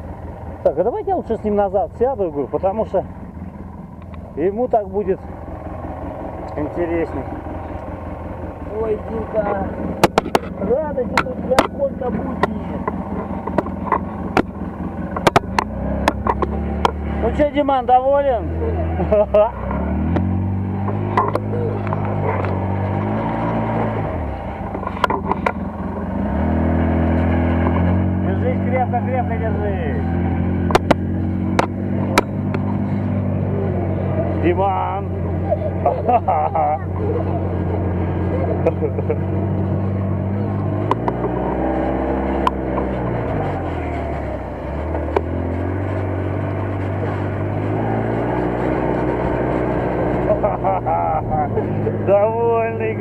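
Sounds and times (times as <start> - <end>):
buggy engine running: 0.0 - 53.0.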